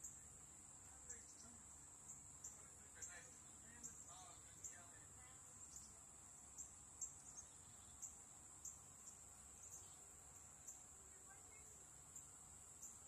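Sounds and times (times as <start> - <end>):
short high insect chirps: 0.0 - 4.8, 5.6 - 13.0
insect trill: 0.0 - 13.0.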